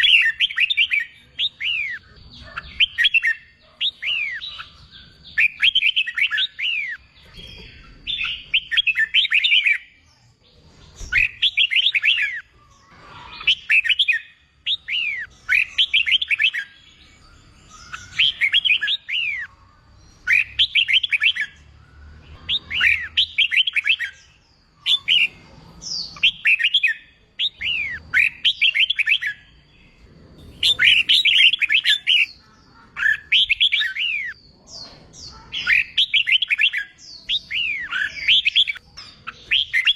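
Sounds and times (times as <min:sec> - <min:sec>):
bird singing whistled notes: 0:00.0 - 0:10.1, 0:11.0 - 0:32.4, 0:33.0 - 0:39.9.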